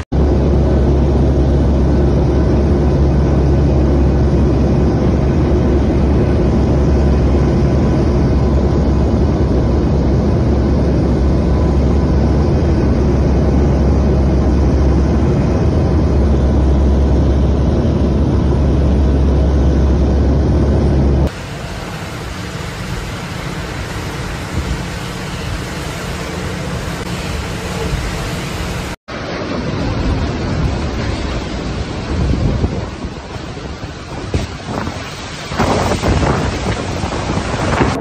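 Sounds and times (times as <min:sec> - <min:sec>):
aircraft engine drone: 0:00.0 - 0:38.0
rushing air noise: 0:00.0 - 0:38.0.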